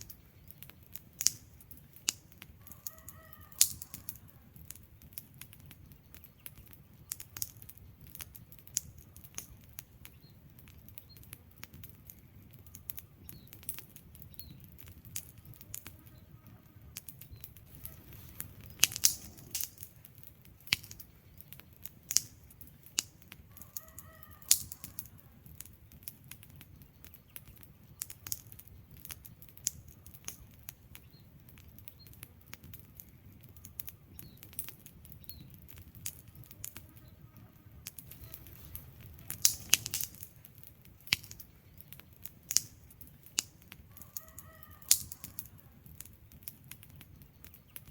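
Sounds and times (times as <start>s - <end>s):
burning logs popping: 0.0s - 47.9s
low rumble of flames: 0.0s - 47.9s.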